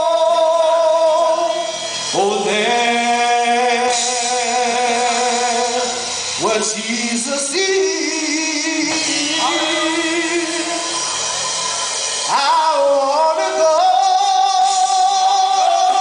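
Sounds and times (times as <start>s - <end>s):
gospel music: 0.0s - 16.0s
person singing with vibrato: 0.0s - 16.0s.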